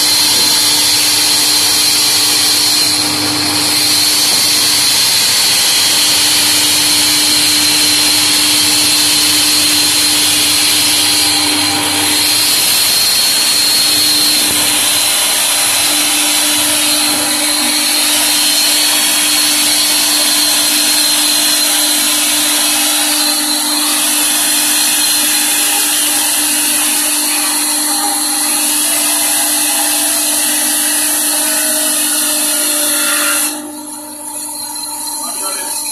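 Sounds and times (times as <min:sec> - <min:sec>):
band saw cutting wood: 0:00.0 - 0:35.9.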